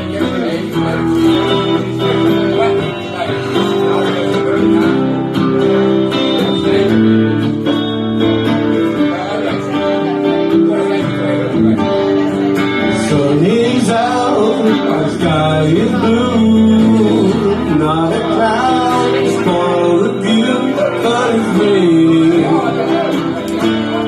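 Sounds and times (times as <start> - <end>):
live band guitar instrumental: 0.0 - 24.0.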